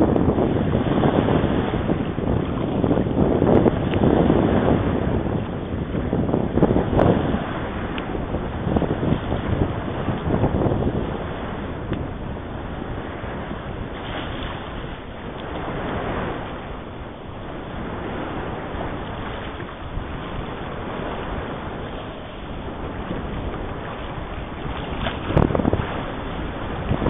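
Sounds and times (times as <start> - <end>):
small choppy waves washing: 0.0 - 27.0
wind buffeting microphone: 0.0 - 27.0.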